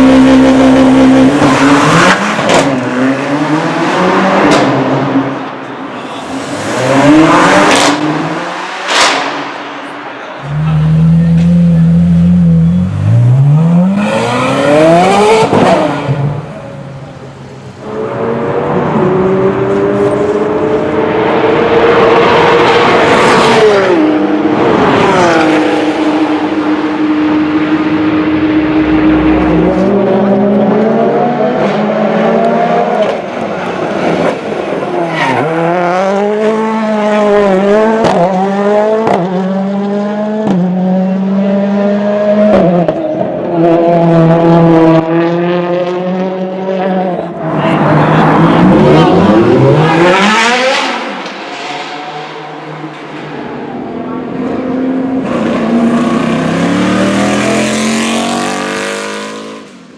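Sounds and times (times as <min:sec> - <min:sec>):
race car engines accelerating past: 0:00.0 - 0:09.8, 0:10.4 - 0:59.9.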